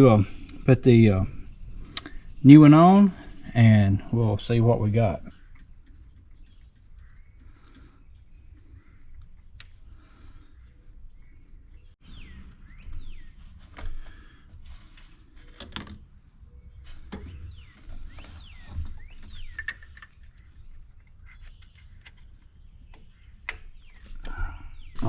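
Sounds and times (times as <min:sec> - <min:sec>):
birds chirping: 0:00.0 - 0:15.6, 0:16.2 - 0:25.0.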